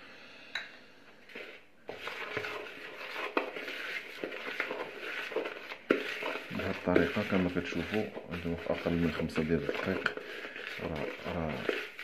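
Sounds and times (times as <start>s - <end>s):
food stirred in container: 1.3s - 12.0s.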